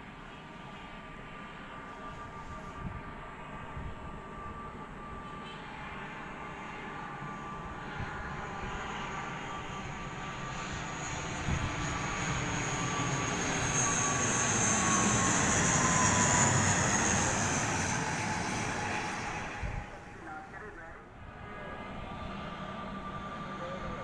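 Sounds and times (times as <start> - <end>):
high engine whine: 0.0 - 24.0
turboprop airliner droning: 0.0 - 24.0.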